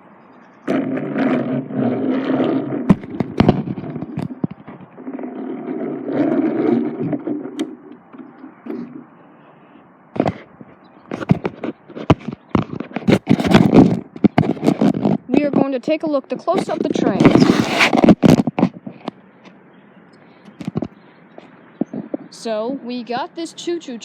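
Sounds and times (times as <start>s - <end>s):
sharp clicks and knocks: 0.7s - 9.1s, 10.2s - 19.6s, 20.4s - 22.3s.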